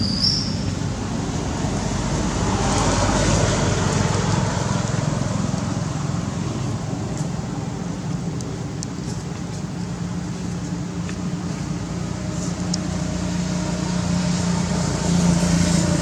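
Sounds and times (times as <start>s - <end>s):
road noise: 0.0s - 16.0s
vehicle engine hum: 0.0s - 16.0s.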